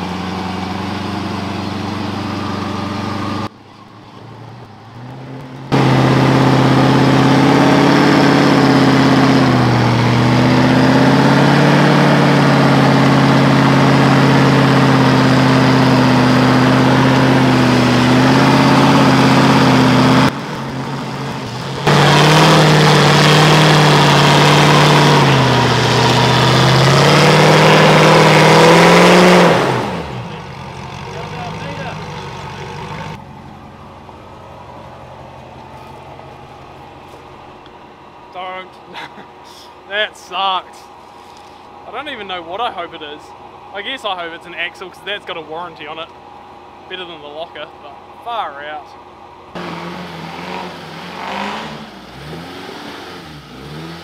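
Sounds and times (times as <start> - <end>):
vehicle driveline droning: 0.0 - 54.0.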